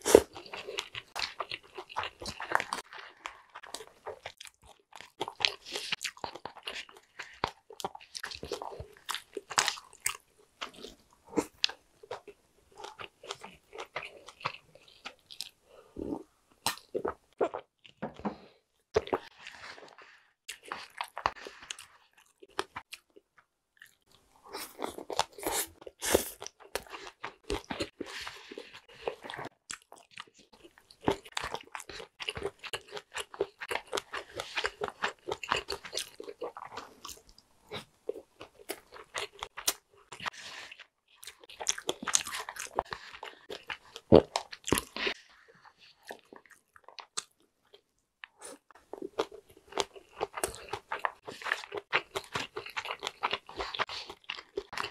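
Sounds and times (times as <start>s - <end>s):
crunchy chewing: 0.0s - 18.0s, 18.9s - 54.9s.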